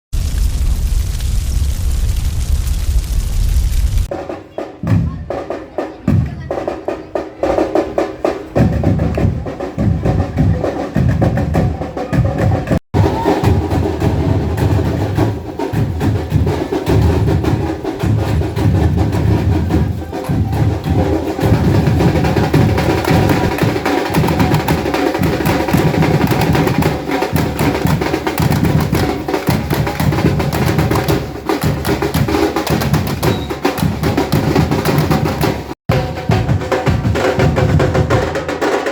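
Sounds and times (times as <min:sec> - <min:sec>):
drum group playing: 0:04.0 - 0:38.9.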